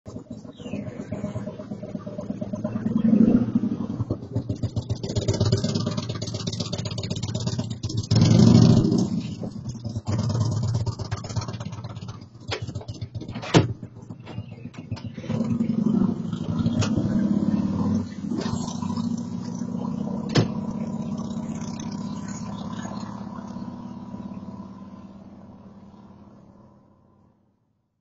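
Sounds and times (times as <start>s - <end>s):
motorcycle engine revving: 0.1s - 27.3s.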